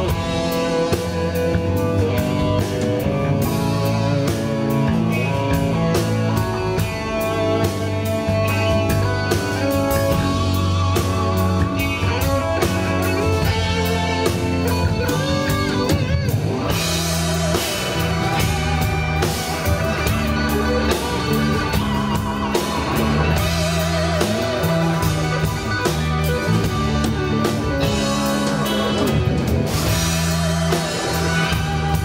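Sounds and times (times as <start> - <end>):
lead guitar bent notes: 0.0 - 32.0
rock band playing live: 0.0 - 32.0.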